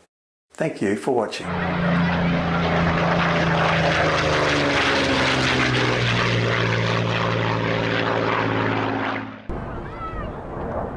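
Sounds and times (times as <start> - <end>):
propeller aircraft engine drone: 1.3 - 10.9.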